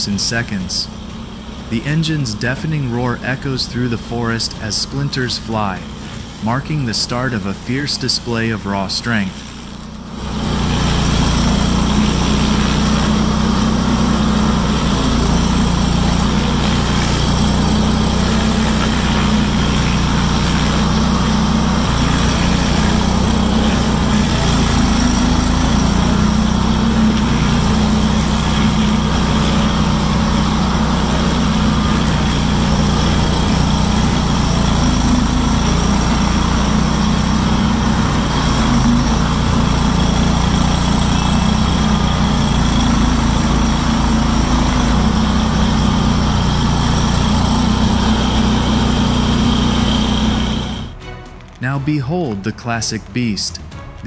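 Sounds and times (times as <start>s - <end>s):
stump grinder grinding: 0.0s - 51.6s.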